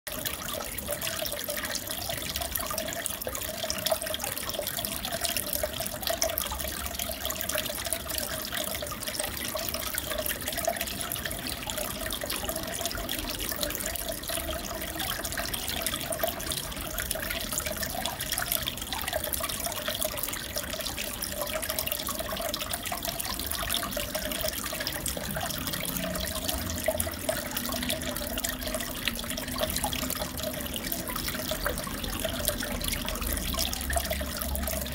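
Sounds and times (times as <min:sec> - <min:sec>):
aquarium water trickling and bubbling: 0:00.1 - 0:34.9.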